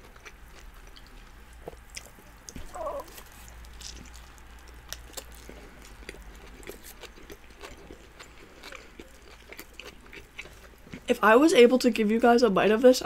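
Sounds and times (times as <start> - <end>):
chewing and mouth smacks: 0.0 - 11.1.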